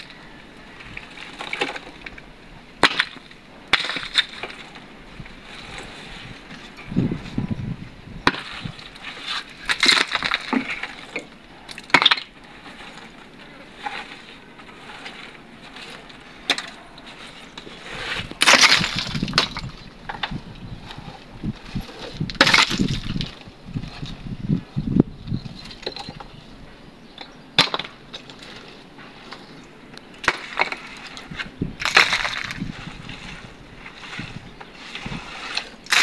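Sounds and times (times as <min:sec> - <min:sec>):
concrete rubble clattering: 0:00.0 - 0:24.4, 0:25.4 - 0:26.4, 0:27.2 - 0:36.0.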